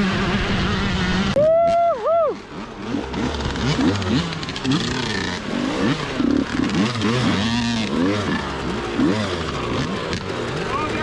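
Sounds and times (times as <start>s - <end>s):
dirt bikes revving: 0.0s - 11.0s.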